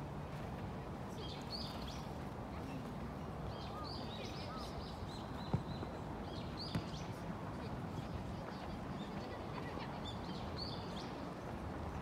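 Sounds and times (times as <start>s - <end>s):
steady outdoor noise: 0.0s - 12.0s.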